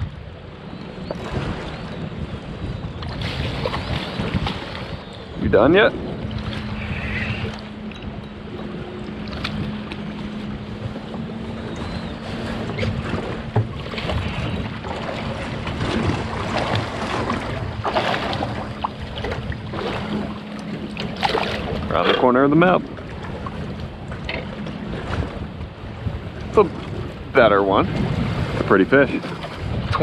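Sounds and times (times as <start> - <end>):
water lapping at boat hull: 0.0 - 30.0
wind buffeting microphone: 0.0 - 30.0.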